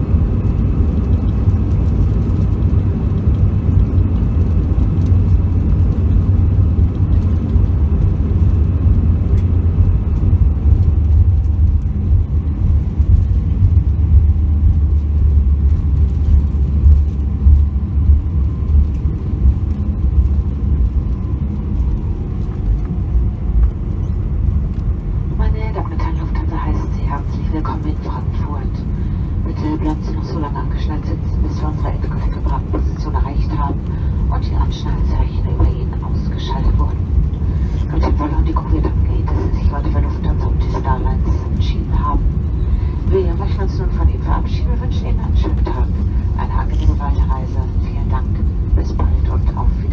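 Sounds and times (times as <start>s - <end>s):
aircraft cabin low rumble: 0.0s - 49.9s
faint steady whine: 0.0s - 49.9s.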